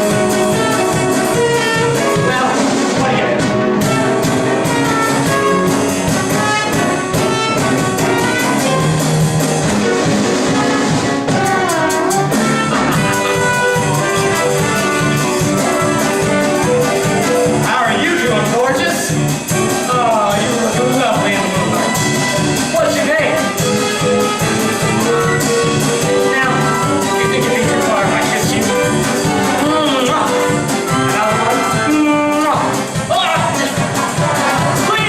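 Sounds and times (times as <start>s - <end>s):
jazzy brass show music: 0.0s - 35.0s.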